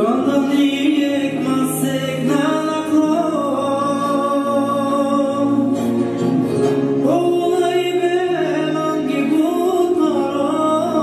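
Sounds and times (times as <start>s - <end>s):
recorded song with singing: 0.0s - 6.0s, 7.0s - 11.0s.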